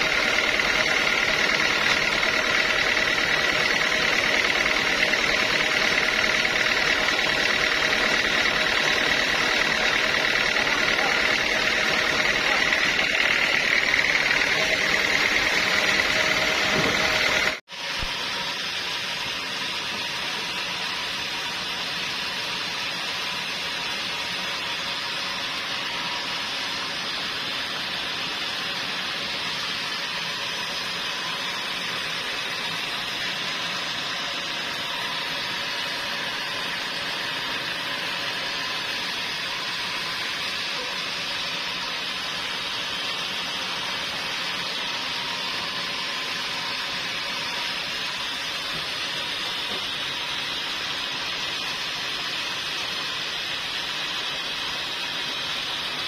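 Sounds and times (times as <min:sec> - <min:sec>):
sawmill machinery hiss: 0:00.0 - 0:56.0.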